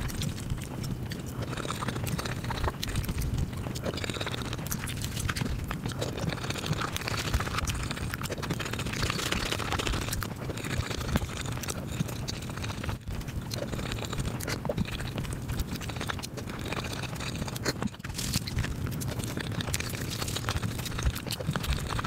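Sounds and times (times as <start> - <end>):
sped-up chewing and lip smacks: 0.0 - 22.0.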